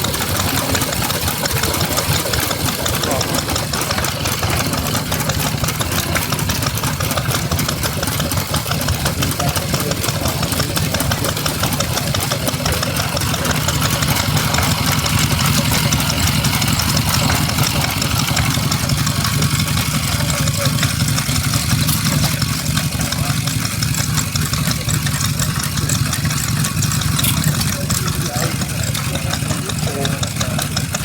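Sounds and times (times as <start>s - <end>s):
engines running: 0.0s - 31.0s.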